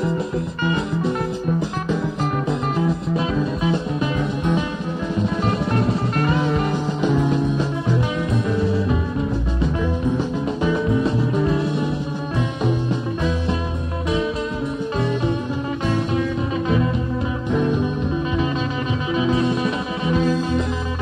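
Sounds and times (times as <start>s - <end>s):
live rock band playing blues: 0.0s - 21.0s.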